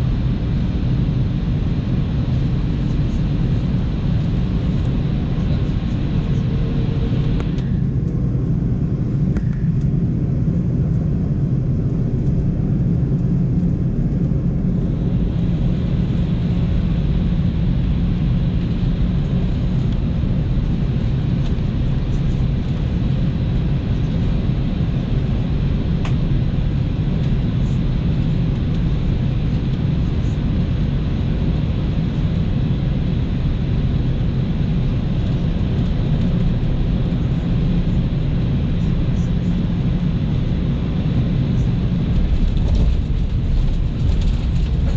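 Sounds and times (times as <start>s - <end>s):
airliner cabin engine rumble: 0.0s - 44.9s
low hums: 0.0s - 44.9s.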